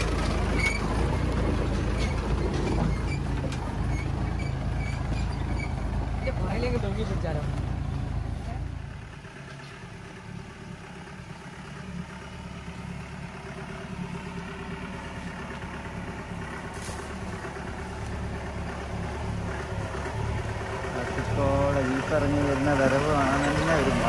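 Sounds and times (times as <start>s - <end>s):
diesel engine running at low revs: 0.0s - 24.0s.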